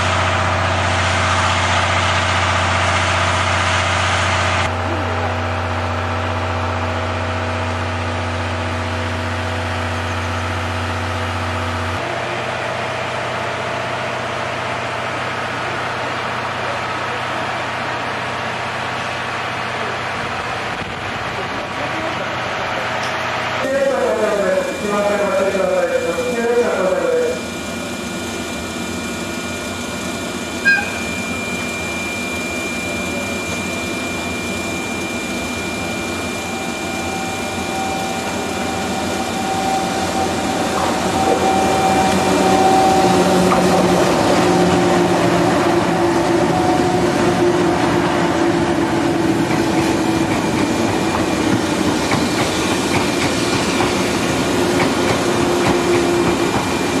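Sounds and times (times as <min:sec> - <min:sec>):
electric locomotive hum: 0:00.0 - 0:57.0
train wheels on rails: 0:00.0 - 0:57.0.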